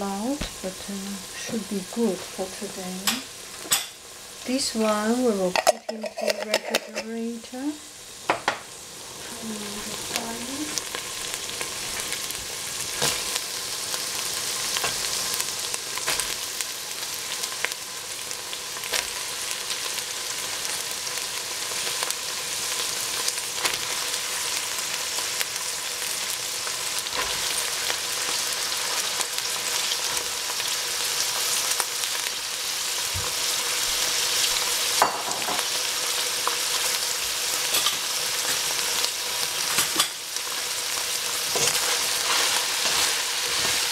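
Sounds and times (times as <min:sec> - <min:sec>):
beans sizzling in a pot: 0:00.0 - 0:43.9.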